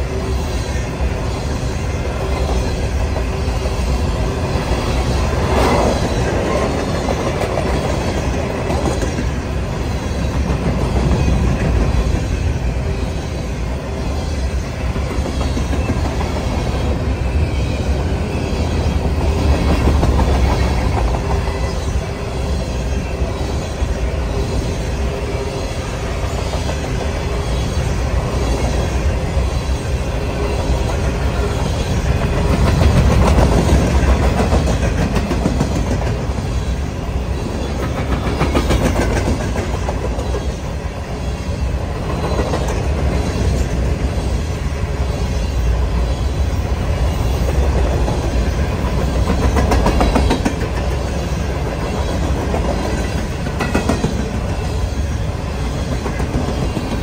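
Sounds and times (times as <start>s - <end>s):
clickety-clack over rail joints: 0.0s - 57.0s
train wheels rumbling: 0.0s - 57.0s.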